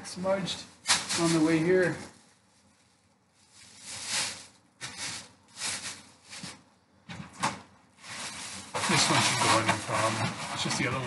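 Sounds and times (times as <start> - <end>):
plastic bag rustling and crinkling: 0.8 - 6.7, 8.0 - 11.0.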